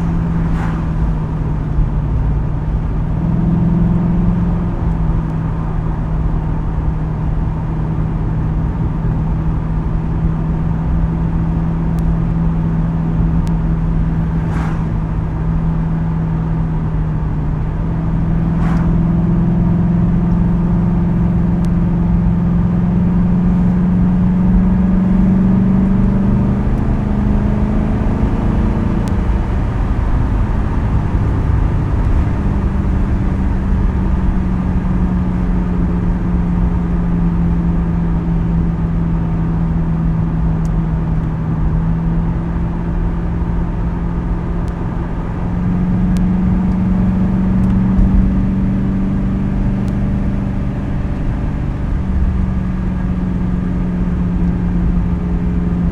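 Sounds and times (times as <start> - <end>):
car engine droning at cruise: 0.0 - 55.9.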